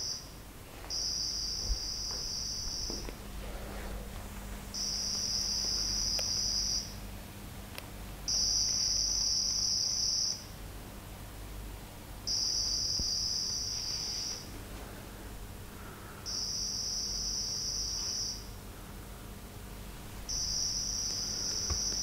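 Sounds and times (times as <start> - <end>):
high-pitched data hiss from loudspeaker: 0.0 - 10.6, 11.4 - 19.0, 19.8 - 22.0.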